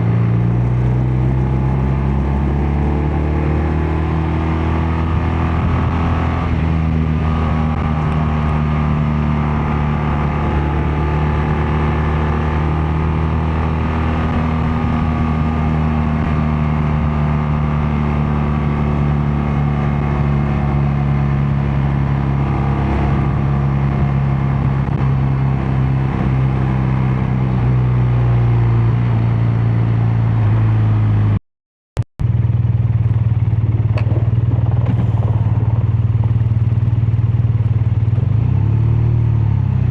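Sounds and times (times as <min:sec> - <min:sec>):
motorcycle engine cruising: 0:00.0 - 0:31.4, 0:32.2 - 0:39.9.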